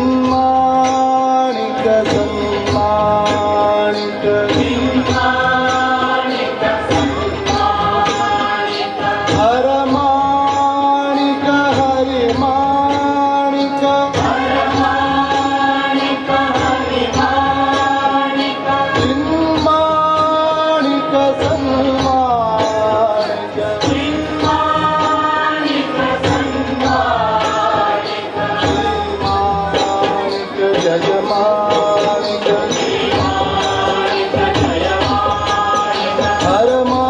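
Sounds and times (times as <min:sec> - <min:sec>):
steady percussion: 0:00.0 - 0:37.0
voices singing devotional song: 0:00.0 - 0:37.0.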